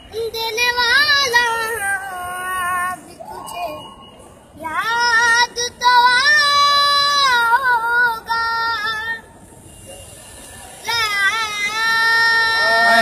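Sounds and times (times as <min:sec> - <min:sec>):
boy singing unaccompanied: 0:00.0 - 0:03.9, 0:04.6 - 0:09.3, 0:10.8 - 0:13.0.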